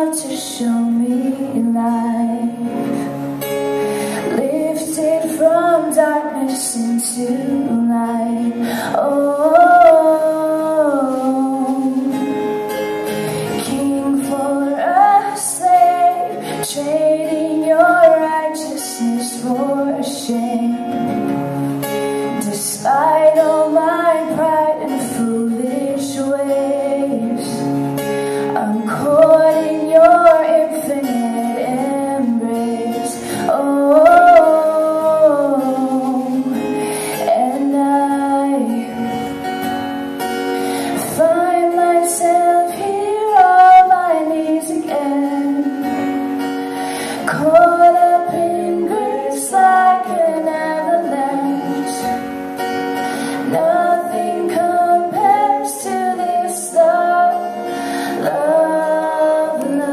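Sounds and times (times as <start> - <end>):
woman singing: 0.0 - 3.2, 4.0 - 12.6, 13.3 - 21.3, 22.1 - 59.9
strummed acoustic guitar: 0.0 - 59.9.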